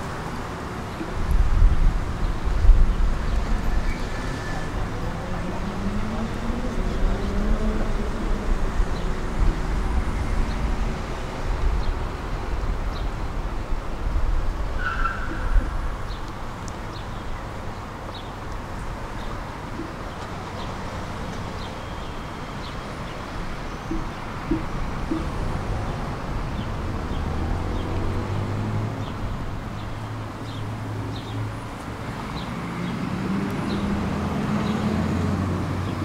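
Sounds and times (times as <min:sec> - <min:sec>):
tram running rumble: 0:00.0 - 0:36.0.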